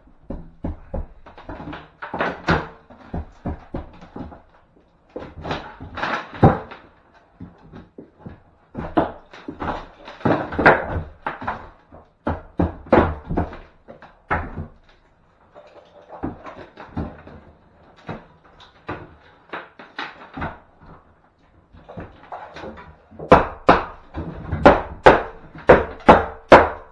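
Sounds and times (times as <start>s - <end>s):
wall being stripped out: 0.0s - 26.9s.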